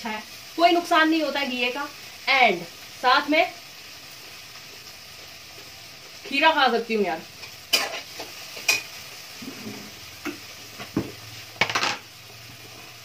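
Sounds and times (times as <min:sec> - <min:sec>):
gravy sizzling in a pan: 0:00.0 - 0:13.0.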